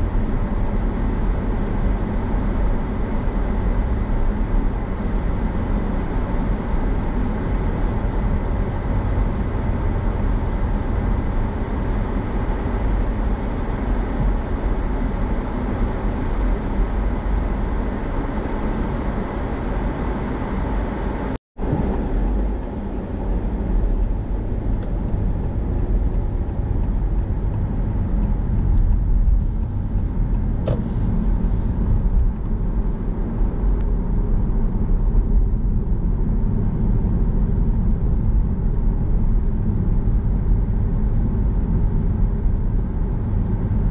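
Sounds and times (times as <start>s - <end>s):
car cabin road noise: 0.0s - 43.9s.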